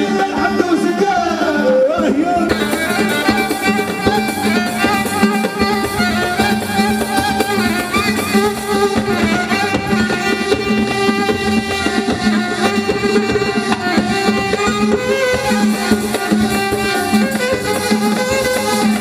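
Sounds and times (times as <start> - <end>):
hand drums and percussion: 0.0 - 19.0
violin melody: 0.0 - 19.0.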